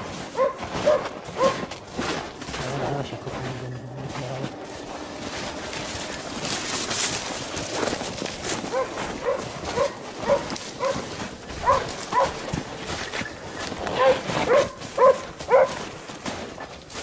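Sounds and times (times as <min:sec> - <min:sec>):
dogs barking: 0:00.0 - 0:02.3, 0:04.4 - 0:16.9
pushing through snowy brush: 0:00.0 - 0:17.0.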